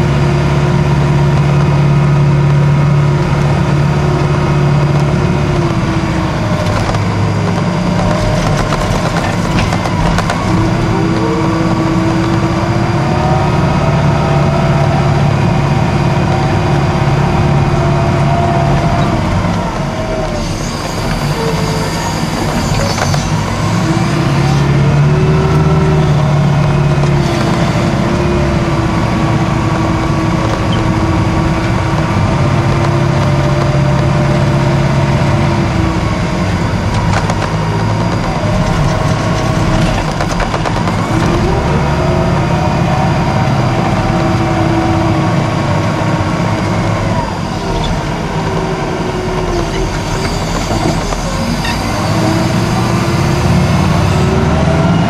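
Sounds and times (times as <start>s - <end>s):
wheel loader diesel engine revving: 0.0s - 55.0s.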